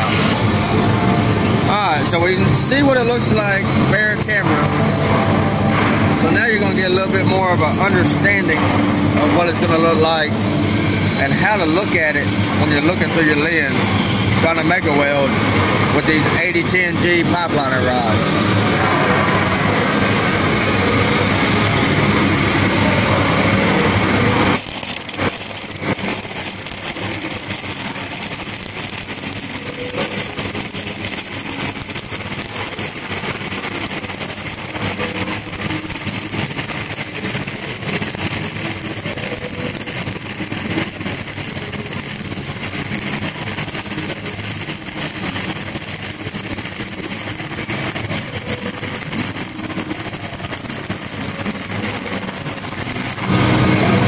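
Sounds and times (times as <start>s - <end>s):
welding arc crackling: 0.0s - 54.0s.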